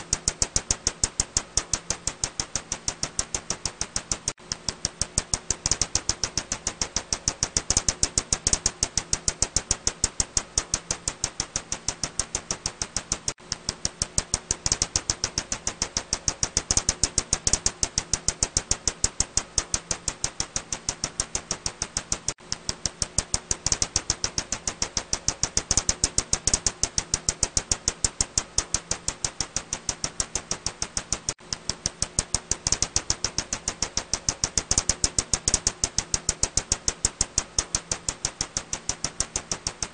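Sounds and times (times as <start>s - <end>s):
bat echolocation clicks: 0.0s - 39.9s.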